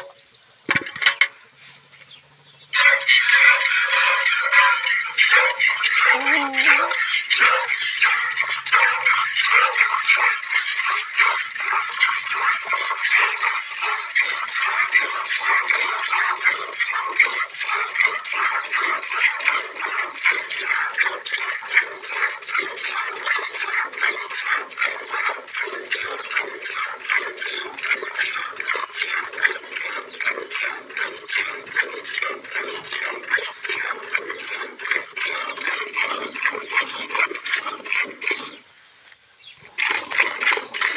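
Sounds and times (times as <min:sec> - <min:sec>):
milk squirting into a steel pail: 0:02.7 - 0:38.6, 0:39.7 - 0:40.9.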